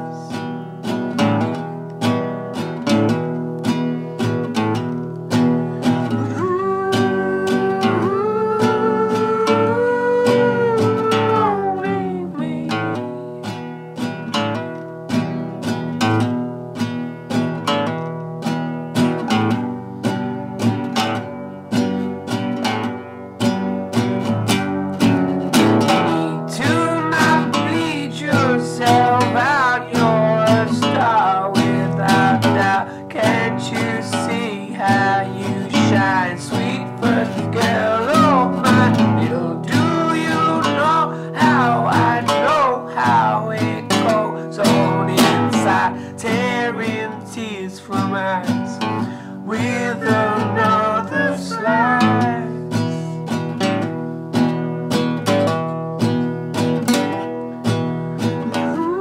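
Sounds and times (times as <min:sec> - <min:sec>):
bending lead guitar notes: 0:00.0 - 0:22.4, 0:23.6 - 0:47.5, 0:48.1 - 0:59.0
acoustic guitar strumming: 0:00.0 - 0:59.0.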